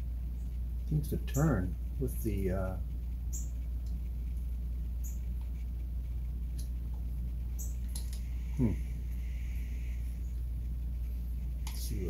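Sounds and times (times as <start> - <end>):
steady low hum: 0.0 - 12.0
faint clicks and ticks of parts: 0.3 - 12.0.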